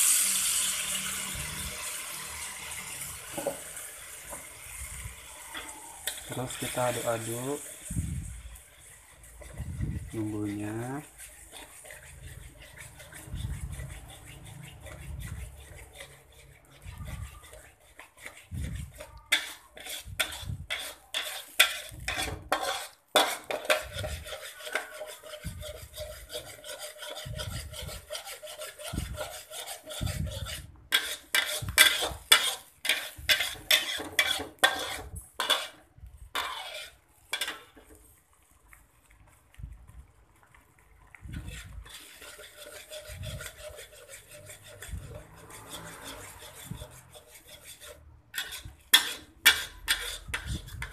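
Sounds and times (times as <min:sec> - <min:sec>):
metal spoon scraping a pan: 0:00.0 - 0:38.2, 0:41.2 - 0:50.9.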